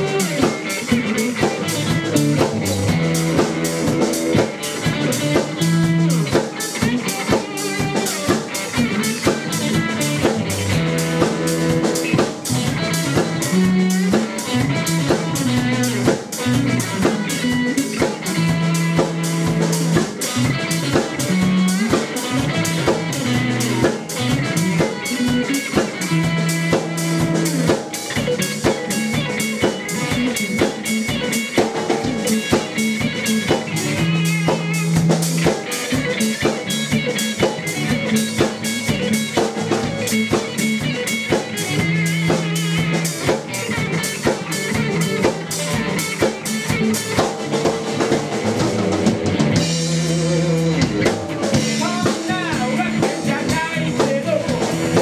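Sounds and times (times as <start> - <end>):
drum kit beat: 0.0 - 55.0
electric bass line: 0.0 - 55.0
electric guitar: 0.0 - 55.0.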